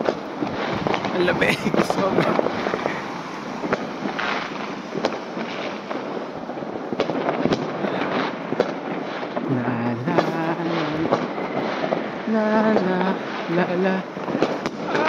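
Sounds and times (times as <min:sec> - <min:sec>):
crackling of distant fireworks: 0:00.0 - 0:15.0
firecracker bangs: 0:00.0 - 0:15.0.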